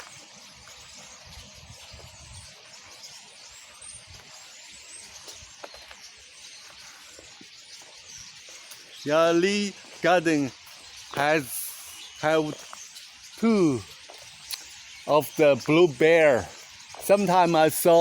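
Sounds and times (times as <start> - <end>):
flock of birds calling: 0.0 - 18.0.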